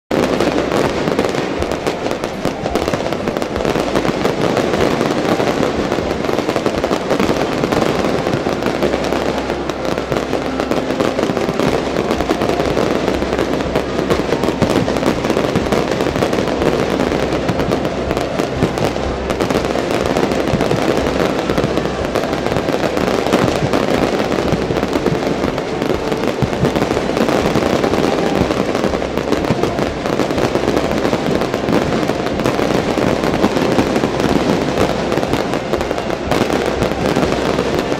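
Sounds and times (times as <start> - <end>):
fireworks bursting and crackling: 0.0 - 37.9.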